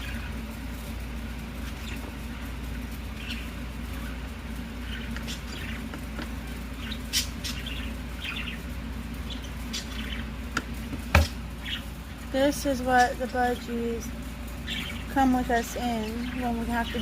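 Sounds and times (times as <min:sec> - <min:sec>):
budgies chirping: 0:00.0 - 0:00.4, 0:01.5 - 0:10.5, 0:11.2 - 0:17.0.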